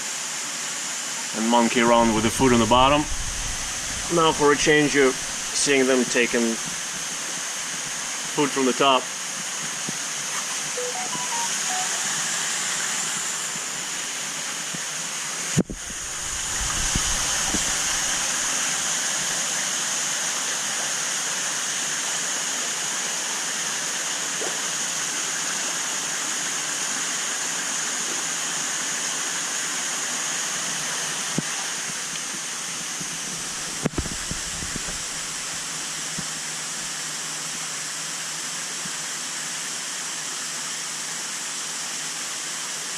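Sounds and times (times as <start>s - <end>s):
rush of moving water: 0.0s - 42.9s.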